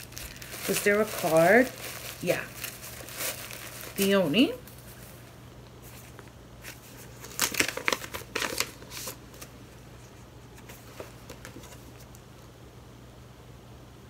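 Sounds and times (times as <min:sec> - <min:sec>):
paper rustling and crinkling: 0:00.0 - 0:12.2.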